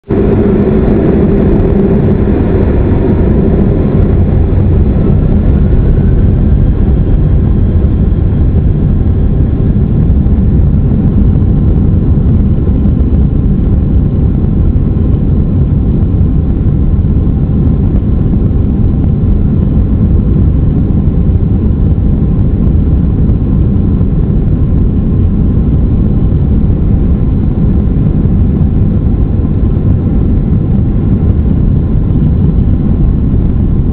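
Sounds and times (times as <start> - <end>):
jet engines rumbling: 0.0 - 33.9
rising engine whine: 0.0 - 33.9.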